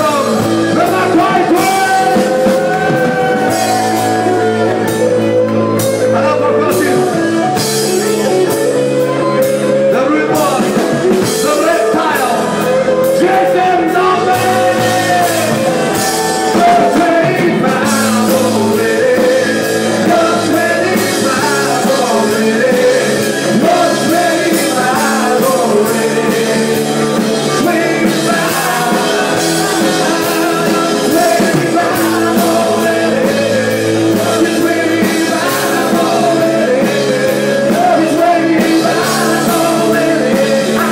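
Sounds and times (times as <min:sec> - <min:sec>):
electric guitars: 0:00.0 - 0:40.9
live rock band playing: 0:00.0 - 0:40.9
person singing into microphone: 0:00.0 - 0:40.9.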